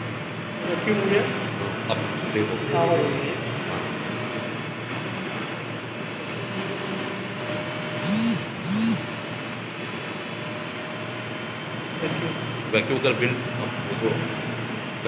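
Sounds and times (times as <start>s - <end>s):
surgical machine mechanical noise: 1.3s - 15.0s.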